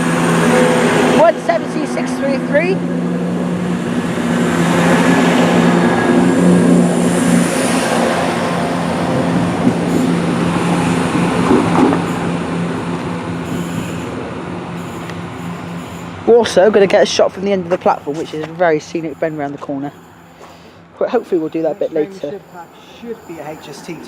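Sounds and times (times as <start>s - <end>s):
train diesel engines humming: 0.0s - 24.0s
wheels rushing on rail: 0.0s - 24.0s.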